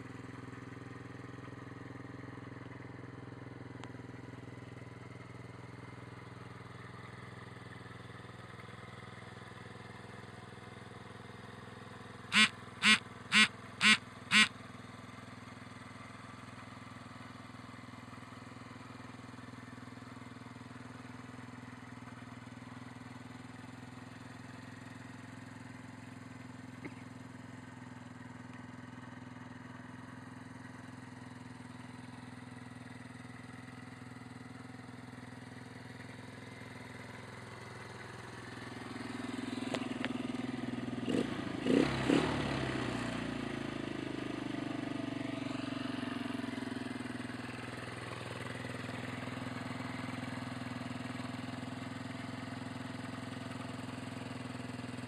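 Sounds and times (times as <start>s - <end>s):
motorbike engine idling and revving: 0.0s - 55.0s.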